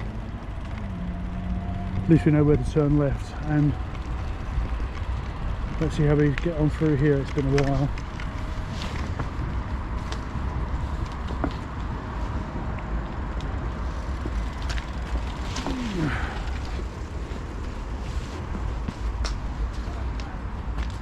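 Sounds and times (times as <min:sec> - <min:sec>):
bicycle tyres on path: 0:00.0 - 0:21.0
wind rumble on microphone: 0:00.0 - 0:21.0.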